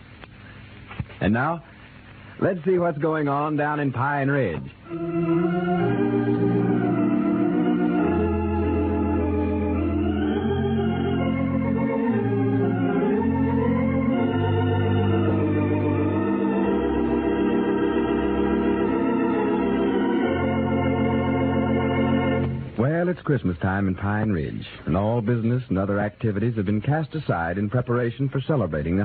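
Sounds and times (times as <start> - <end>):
organ music: 2.5 - 29.0.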